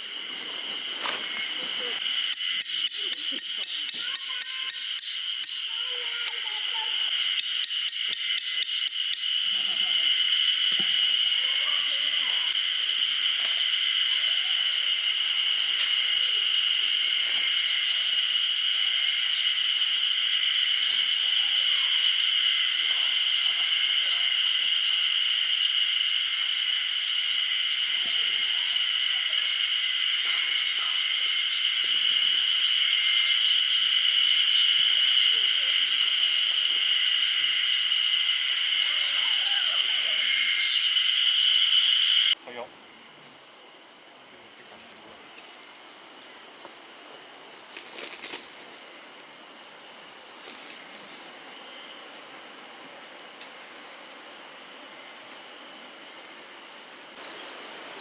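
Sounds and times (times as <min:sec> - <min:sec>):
insects buzzing: 0:00.0 - 0:44.8, 0:45.4 - 0:53.4.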